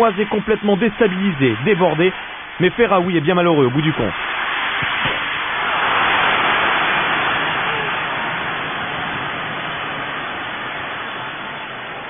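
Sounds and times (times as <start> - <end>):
stadium crowd roar: 0.0 - 12.0.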